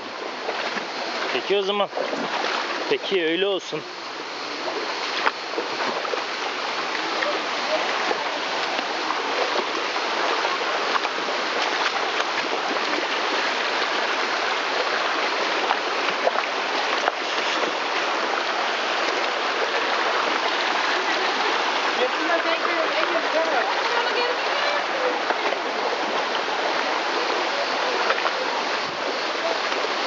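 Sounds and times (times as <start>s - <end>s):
stream running over rocks: 0.0s - 30.0s.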